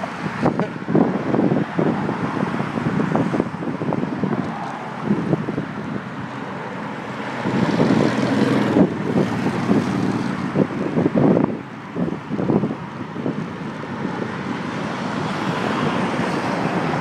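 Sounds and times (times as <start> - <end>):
road and traffic noise: 0.0 - 17.0
wind buffeting microphone: 0.0 - 17.0.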